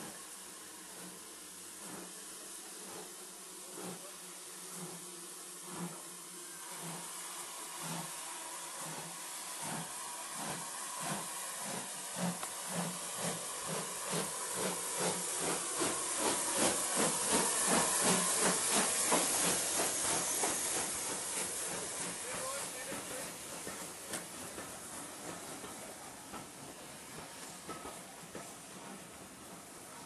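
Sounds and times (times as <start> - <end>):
steam hiss: 0.0 - 30.0
steam locomotive exhaust chuffs: 0.0 - 30.0.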